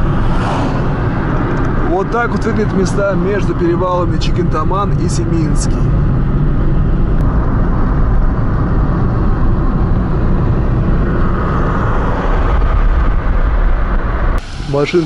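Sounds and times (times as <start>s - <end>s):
car engine hum: 0.0s - 15.0s
wind noise: 0.0s - 15.0s.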